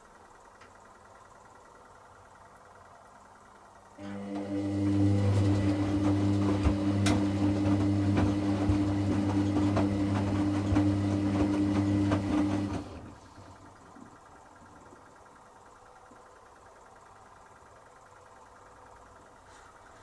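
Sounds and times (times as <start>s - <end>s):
mains hum: 0.0s - 20.0s
washing machine drain pump: 0.0s - 20.0s.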